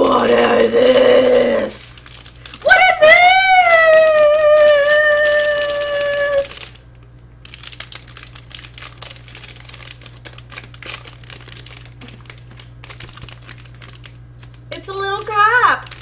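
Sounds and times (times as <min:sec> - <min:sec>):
snack packaging crinkling: 0:00.0 - 0:16.0.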